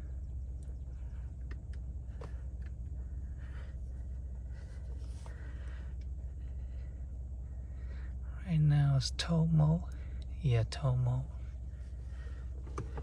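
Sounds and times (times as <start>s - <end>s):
vehicle idling hum: 0.0s - 13.0s.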